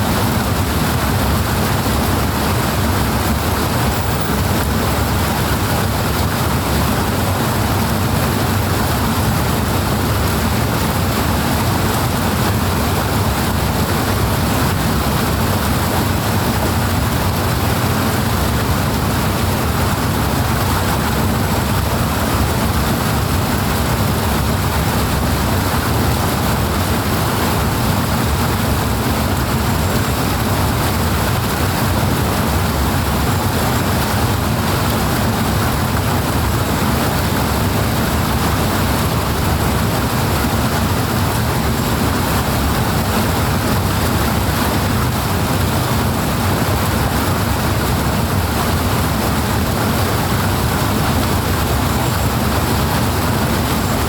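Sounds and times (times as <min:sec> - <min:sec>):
powerful flowing water: 0:00.0 - 0:54.0.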